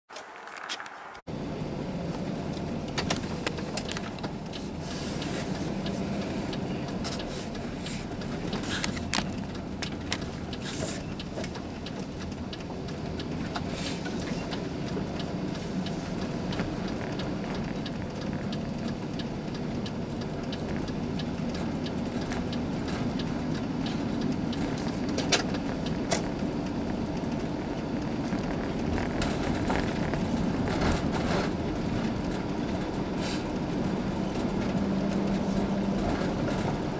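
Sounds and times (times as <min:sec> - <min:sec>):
car engine and tyre rumble: 0:00.1 - 0:36.9.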